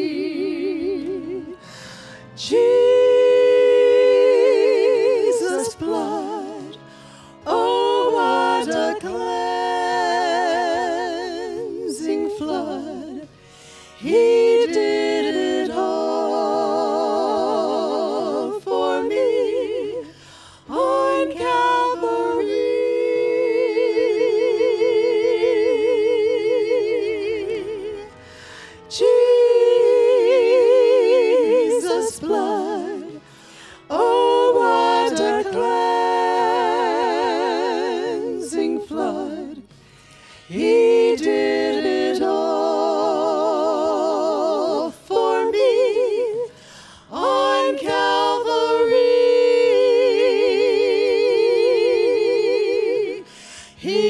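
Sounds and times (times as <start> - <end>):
women singing unaccompanied: 2.4 - 6.8, 7.4 - 13.3, 14.0 - 20.1, 20.7 - 28.1, 28.9 - 33.2, 33.9 - 39.7, 40.5 - 54.0.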